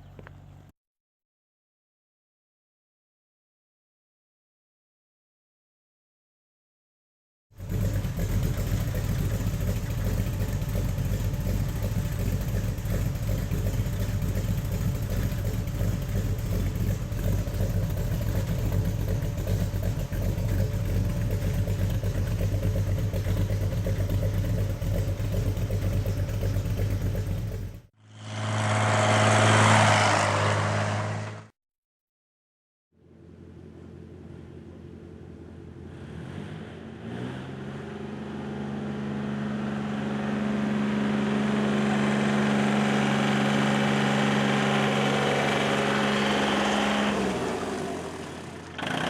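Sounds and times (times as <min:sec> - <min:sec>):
vehicle engine running: 0:00.0 - 0:00.7, 0:07.6 - 0:31.5, 0:33.0 - 0:49.0.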